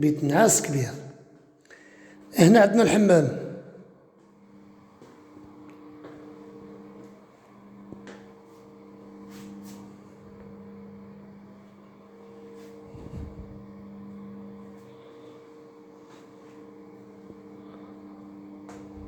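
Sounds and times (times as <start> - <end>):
steady low hum: 1.7 - 19.0.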